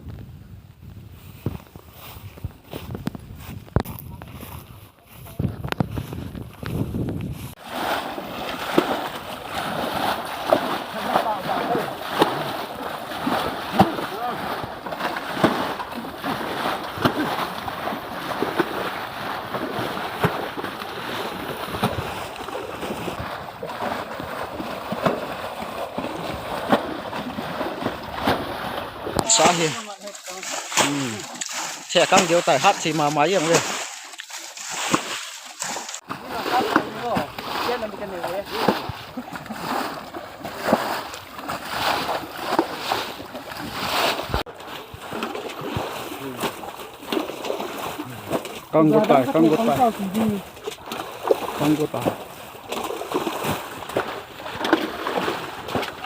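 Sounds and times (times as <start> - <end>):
water splashing against a boat: 1.2 - 56.0.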